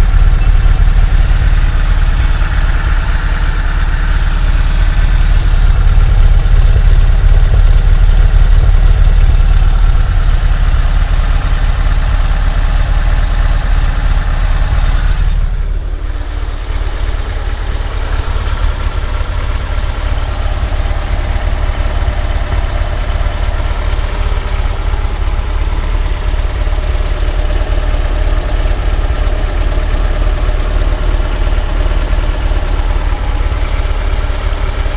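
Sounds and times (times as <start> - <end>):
air-cooled engine idling: 0.0 - 34.9.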